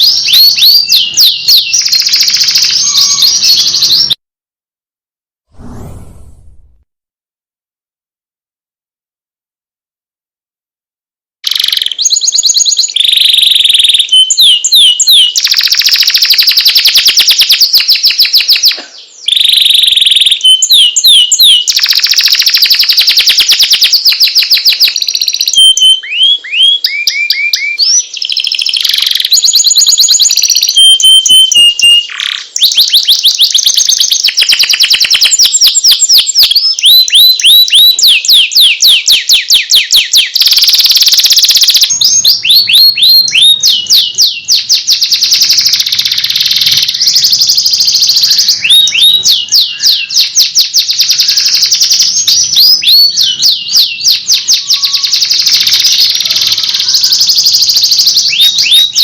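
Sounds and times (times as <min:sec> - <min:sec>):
canary singing trills: 0:00.0 - 0:04.2, 0:11.4 - 0:59.0.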